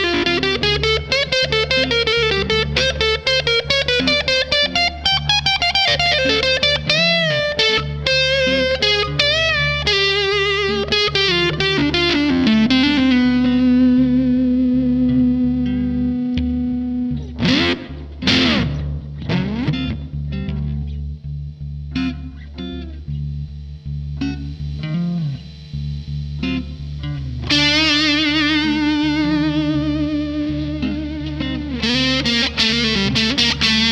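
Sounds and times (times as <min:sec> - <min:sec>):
fuzz electric guitar lead: 0:00.0 - 0:33.9.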